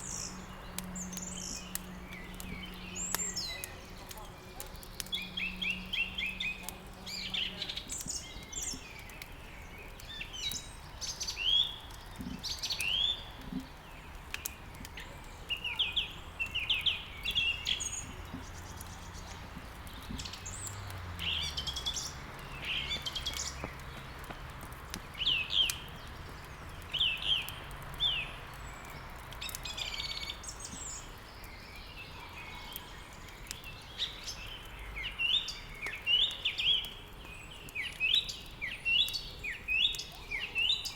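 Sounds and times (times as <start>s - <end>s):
songbirds chirping: 0.0s - 40.9s
wood fire crackling: 0.0s - 40.9s.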